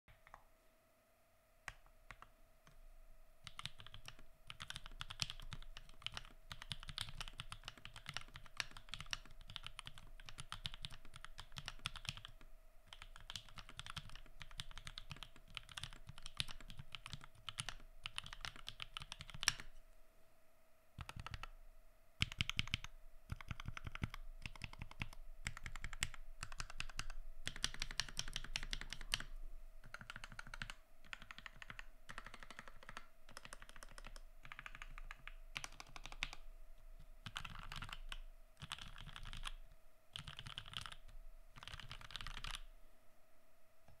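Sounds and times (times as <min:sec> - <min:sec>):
mechanical keyboard typing: 0:01.7 - 0:02.3, 0:03.4 - 0:19.7, 0:21.0 - 0:21.5, 0:22.2 - 0:36.4, 0:37.2 - 0:39.6, 0:40.2 - 0:42.7.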